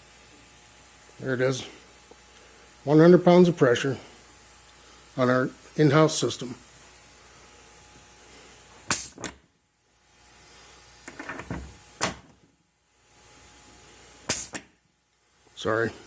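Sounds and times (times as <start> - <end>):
faint air hiss: 0.0 - 16.0.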